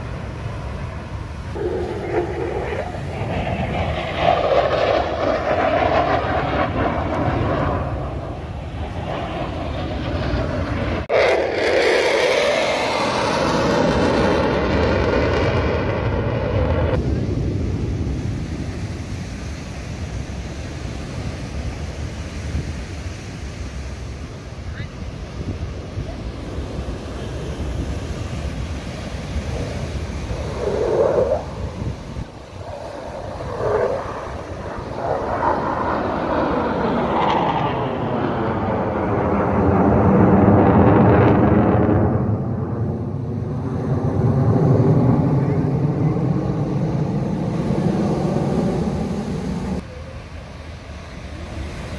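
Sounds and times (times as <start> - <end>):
jet engine roar: 0.0 - 51.9
wind on microphone: 0.0 - 51.9.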